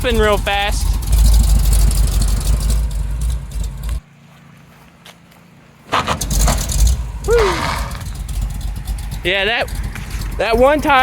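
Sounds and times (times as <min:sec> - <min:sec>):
pickup truck engine and road noise: 0:00.0 - 0:11.0.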